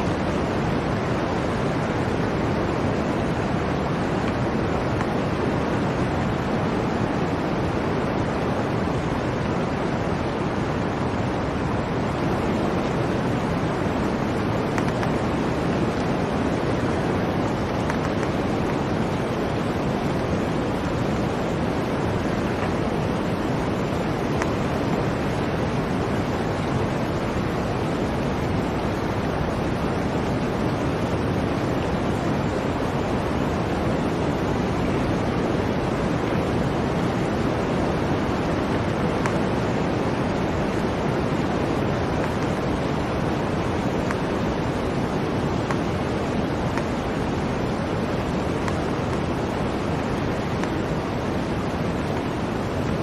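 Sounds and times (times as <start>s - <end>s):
blizzard wind rushing: 0.0s - 53.0s.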